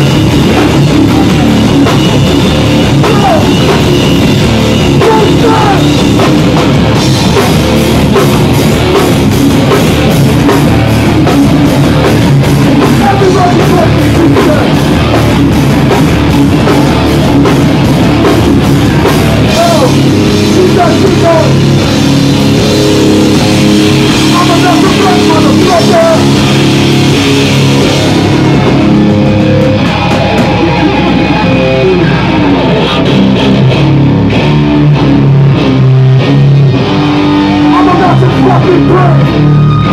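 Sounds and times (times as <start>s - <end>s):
drums and cymbals: 0.0s - 33.3s
bass guitar: 0.0s - 39.9s
distorted electric guitars: 0.0s - 39.9s.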